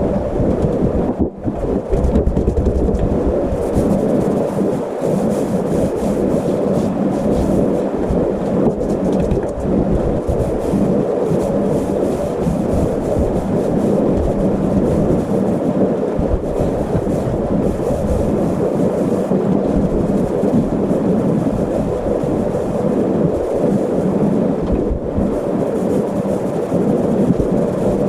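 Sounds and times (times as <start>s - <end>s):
low hum: 0.0s - 25.9s
fan heater rushing: 0.0s - 28.0s.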